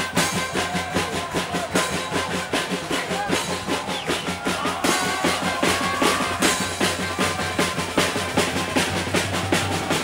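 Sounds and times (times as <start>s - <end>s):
samba percussion drums: 0.0s - 10.0s.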